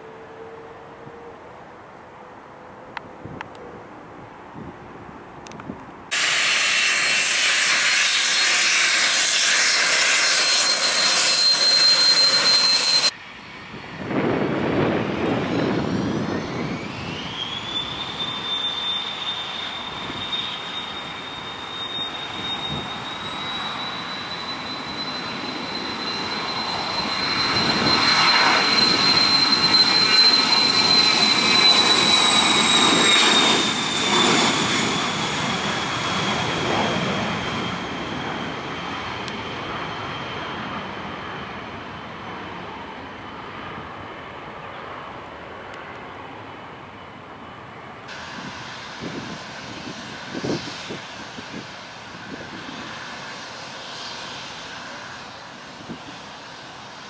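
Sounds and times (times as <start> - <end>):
jet engines spooling up: 6.1 - 57.0
jet hiss and whine: 6.1 - 57.0.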